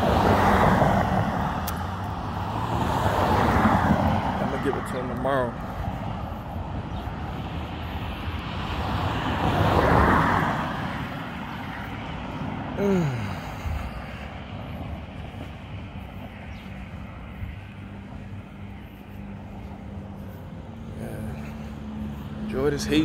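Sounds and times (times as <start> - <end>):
steady traffic noise: 0.0 - 23.0
vehicle passing by: 0.0 - 23.0.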